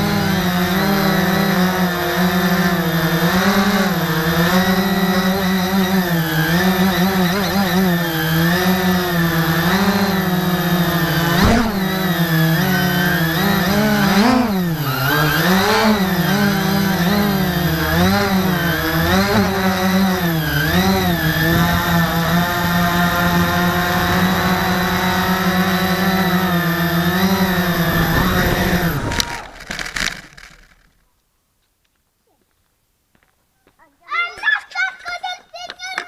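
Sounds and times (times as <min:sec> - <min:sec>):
quadcopter motors whining: 0:00.0 - 0:31.0.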